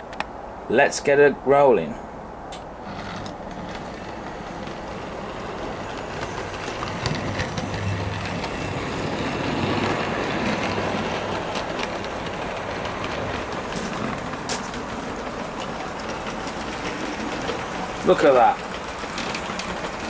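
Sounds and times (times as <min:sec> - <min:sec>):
wheels rumbling on track: 0:01.6 - 0:20.0
clicks over rail joints: 0:02.5 - 0:20.0
model train motor hum: 0:02.5 - 0:20.0.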